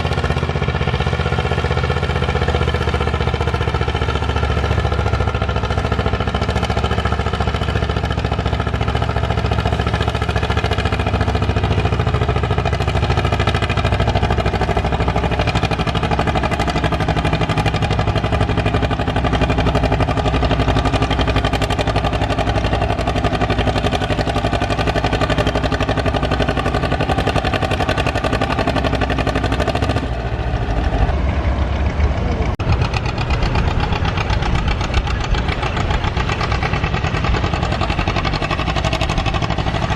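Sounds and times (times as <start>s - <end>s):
tractor engine knocking: 0.0s - 39.9s.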